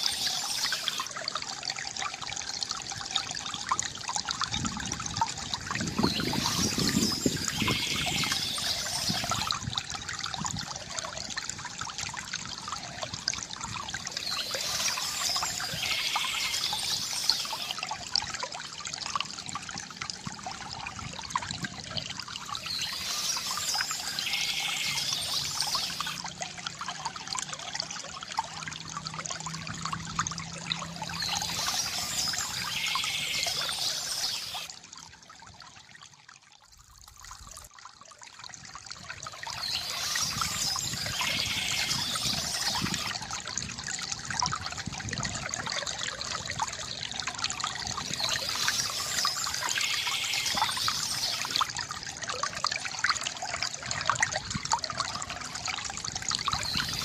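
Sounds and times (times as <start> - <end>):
water trickling from fountain: 0.0 - 57.0.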